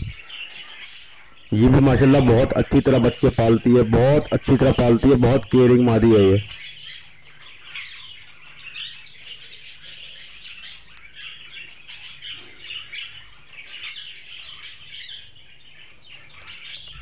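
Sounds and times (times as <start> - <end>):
budgerigars chirping and chattering: 0.0 - 17.0.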